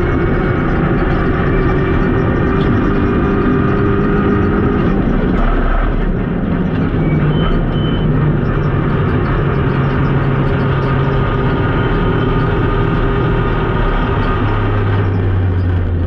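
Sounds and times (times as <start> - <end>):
car engine pulling hard: 0.0 - 16.0.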